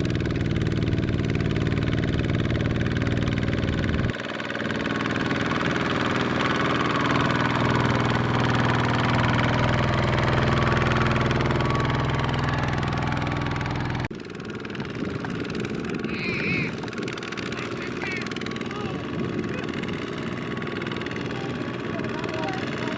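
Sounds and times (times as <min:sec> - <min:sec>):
diesel tractor engine running: 0:00.0 - 0:22.9.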